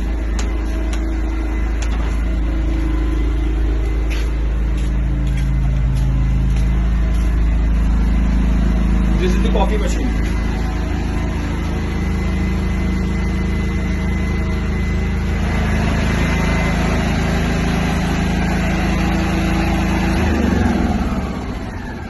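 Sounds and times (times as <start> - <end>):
petrol generator running: 0.0 - 22.0.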